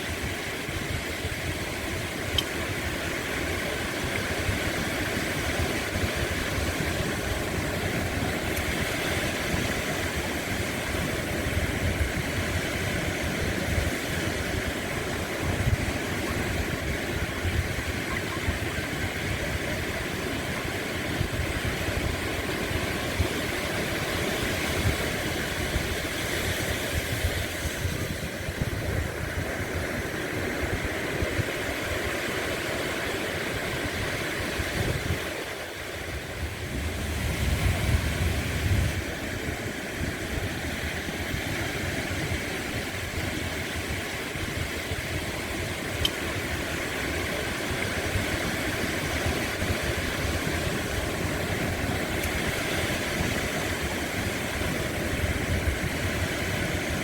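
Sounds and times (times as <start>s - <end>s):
ocean surf washing on shore: 0.0s - 57.0s.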